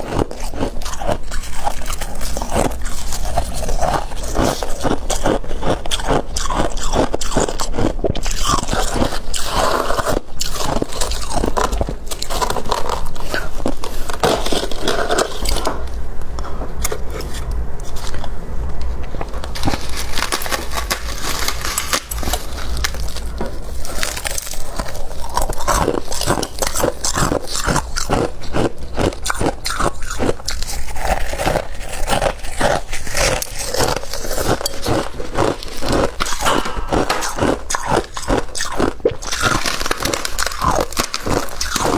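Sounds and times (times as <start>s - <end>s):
crunchy frost being chewed: 0.0s - 41.9s.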